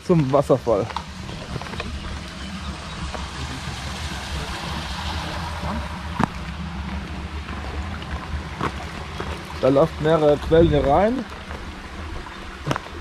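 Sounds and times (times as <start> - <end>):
brook running: 0.0 - 13.0.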